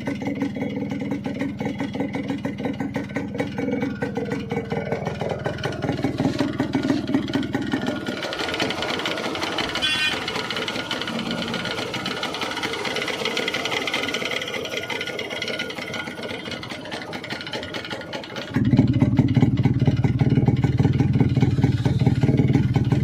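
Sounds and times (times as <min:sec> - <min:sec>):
motorcycle engine clattering: 0:00.0 - 0:23.0.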